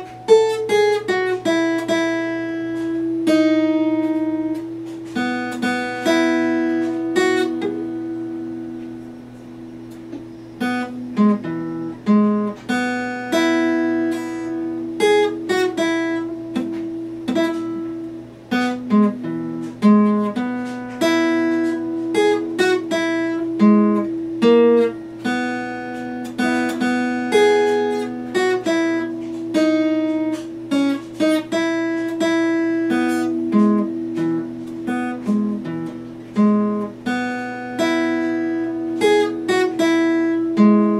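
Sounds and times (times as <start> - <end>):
acoustic guitar picking: 0.0 - 40.9.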